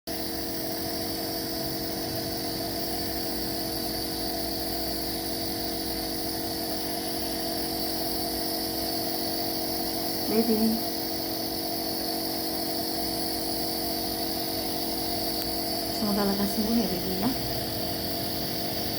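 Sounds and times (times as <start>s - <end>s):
nebulizer compressor humming: 0.1s - 18.9s.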